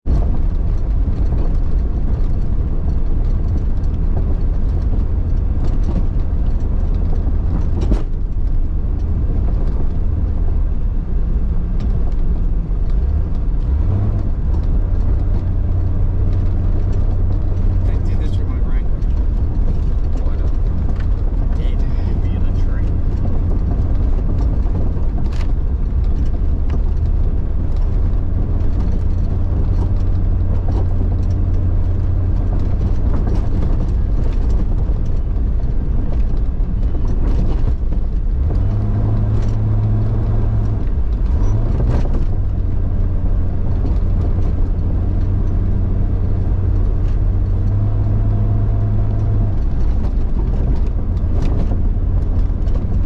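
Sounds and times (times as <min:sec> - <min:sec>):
car engine revving: 0:00.1 - 0:53.0.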